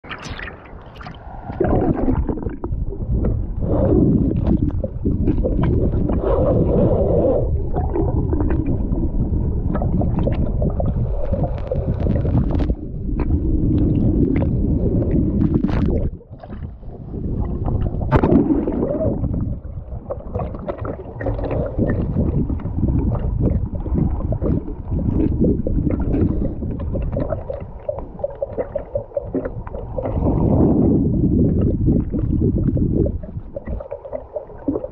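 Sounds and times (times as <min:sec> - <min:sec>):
underwater river rushing: 0:00.0 - 0:34.9.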